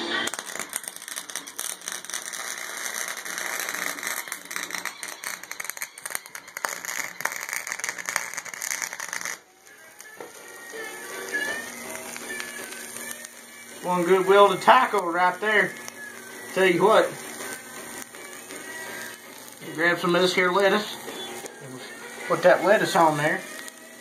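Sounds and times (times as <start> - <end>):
welder arc crackling: 0.0 - 24.0.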